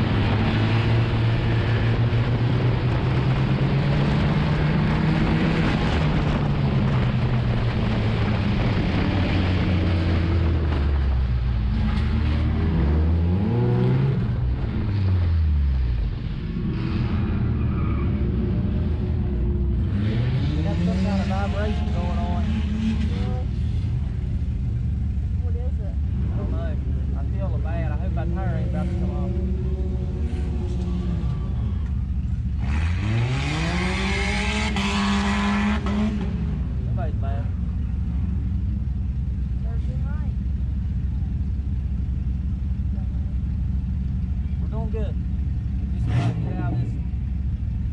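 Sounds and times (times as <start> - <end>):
race car engine from cabin: 0.0 - 47.9.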